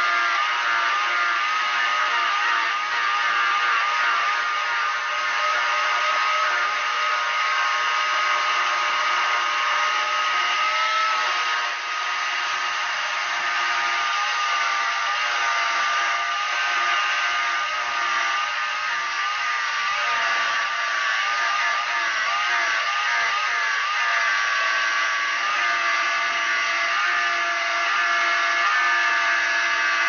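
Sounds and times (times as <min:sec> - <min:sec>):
jigsaw motor whine: 0:00.0 - 0:30.0
saw blade rasping through wood: 0:00.0 - 0:30.0.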